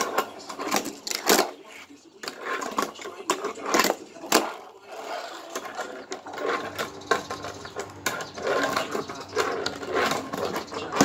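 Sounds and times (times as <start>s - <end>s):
fingerboard wheels rolling: 0.0s - 11.0s.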